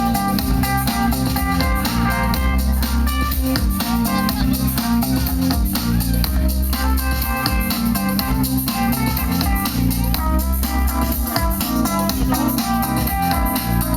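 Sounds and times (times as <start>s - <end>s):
bass guitar: 0.0s - 13.9s
drum kit beat: 0.0s - 13.9s.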